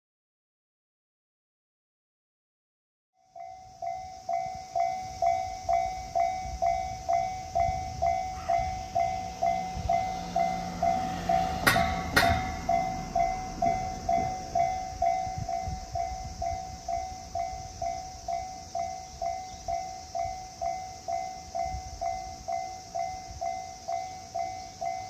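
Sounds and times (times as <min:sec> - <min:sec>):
level crossing alarm ringing: 0:03.2 - 0:25.0
train passing rumble: 0:03.3 - 0:25.0
sharp knocks of train: 0:04.8 - 0:25.0.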